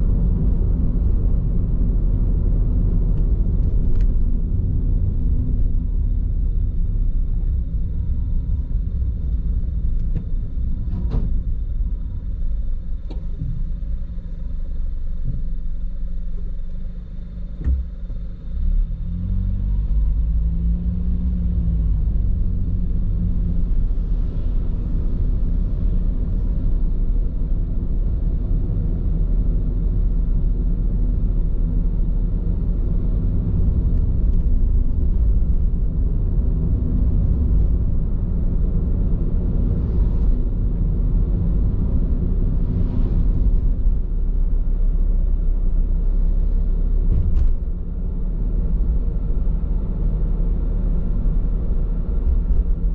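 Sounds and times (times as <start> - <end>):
road rumble inside car: 0.0 - 52.9.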